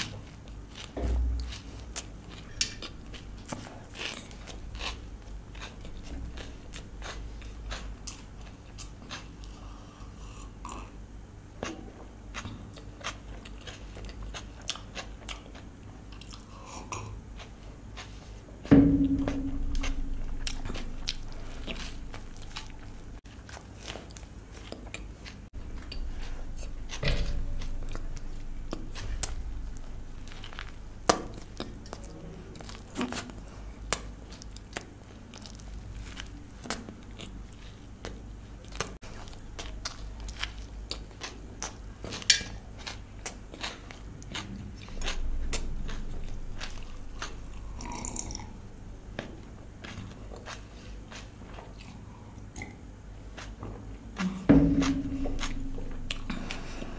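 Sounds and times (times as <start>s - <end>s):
person chewing and crunching: 0.0s - 11.0s, 11.6s - 18.4s, 19.2s - 56.9s.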